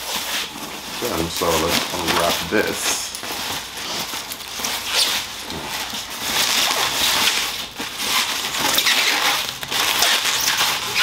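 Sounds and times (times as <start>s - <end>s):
plastic wrapping rustling: 0.0s - 11.0s.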